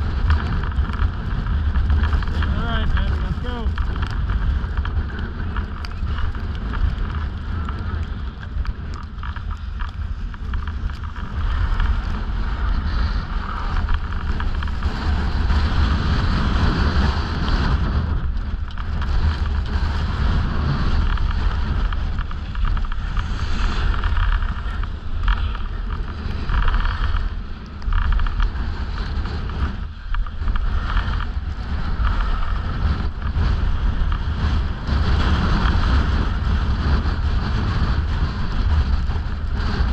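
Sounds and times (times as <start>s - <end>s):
skis sliding on snow: 0.0s - 39.9s
wind buffeting microphone: 0.0s - 39.9s.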